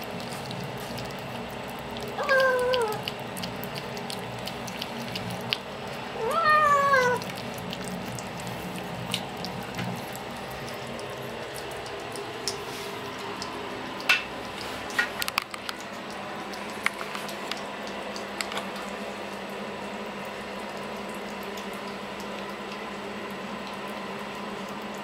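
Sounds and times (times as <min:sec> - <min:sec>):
cats chewing wet food: 0:00.0 - 0:25.0.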